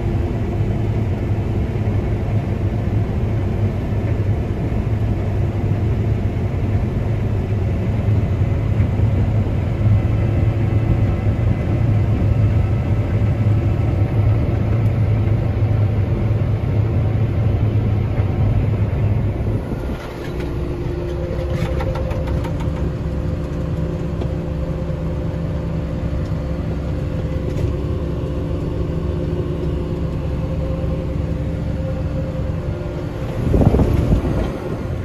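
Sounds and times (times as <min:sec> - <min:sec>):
farm machinery engines droning: 0:00.0 - 0:35.0.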